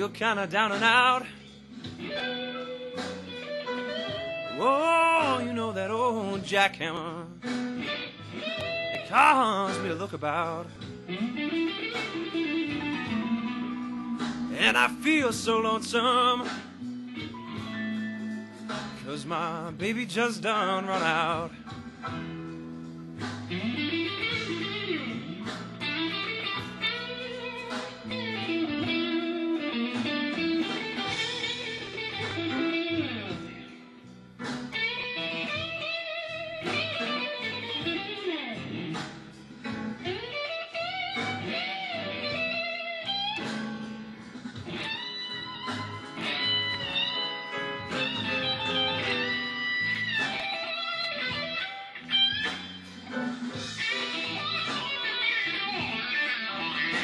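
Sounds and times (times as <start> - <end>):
electric guitar blues solo: 0.0 - 57.0.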